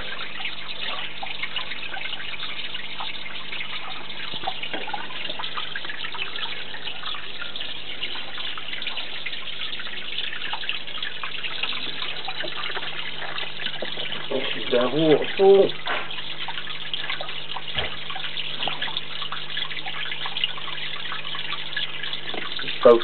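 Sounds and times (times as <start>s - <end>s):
small waterfall splashing: 0.0s - 23.0s
water dripping: 0.0s - 23.0s.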